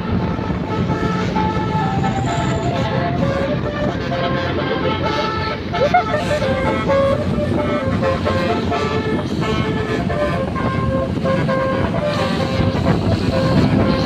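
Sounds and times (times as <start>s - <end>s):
bus engine rumble: 0.0s - 14.0s
multi-tone bus horn melody: 0.0s - 14.0s
road noise: 0.0s - 14.0s.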